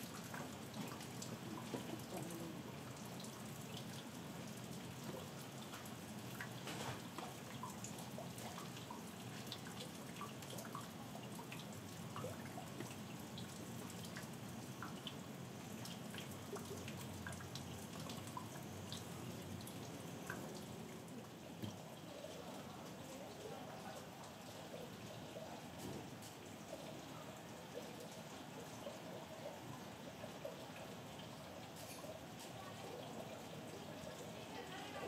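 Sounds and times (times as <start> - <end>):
water drips ticking: 0.0 - 34.8
steady rain falling: 0.0 - 35.0.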